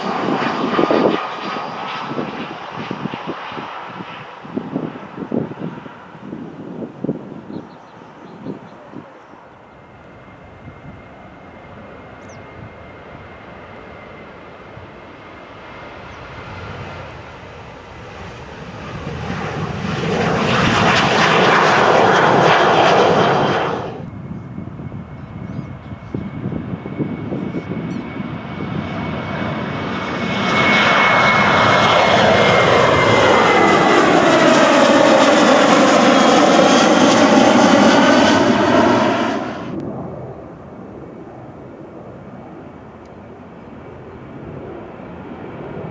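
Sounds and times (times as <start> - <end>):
jet engines at take-off power: 0.0 - 45.9.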